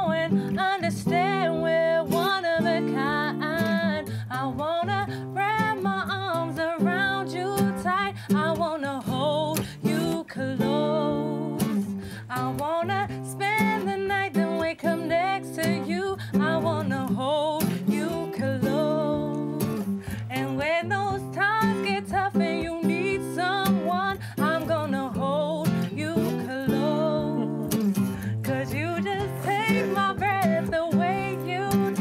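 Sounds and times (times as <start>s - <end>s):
person singing a love song: 0.0s - 32.0s
strummed acoustic guitar: 0.0s - 32.0s.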